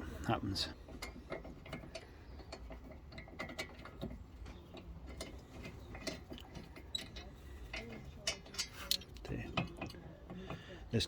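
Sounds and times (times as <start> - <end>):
metal parts clicking and tapping: 0.9 - 10.6.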